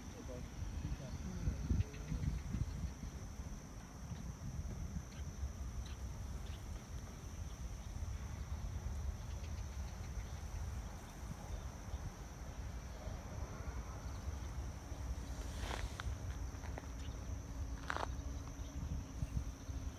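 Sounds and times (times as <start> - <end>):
faint high-pitched whine: 0.0 - 19.9
wind buffeting microphone: 0.4 - 19.9.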